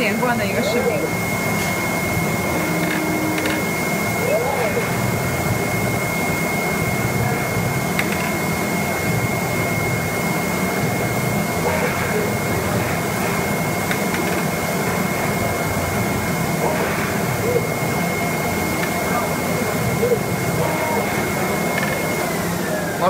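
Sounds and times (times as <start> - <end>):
cutting machine noise: 0.0 - 23.0
thin high whine: 0.0 - 23.0.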